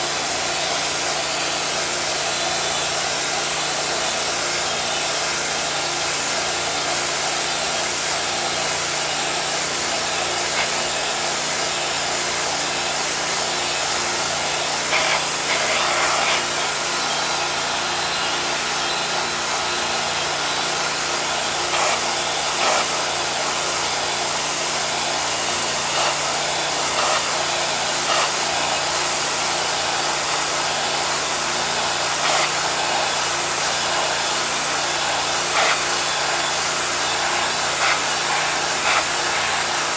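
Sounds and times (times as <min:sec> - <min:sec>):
low drone of washer unit: 0:00.0 - 0:39.9
pressure washer jet hissing: 0:00.0 - 0:39.9.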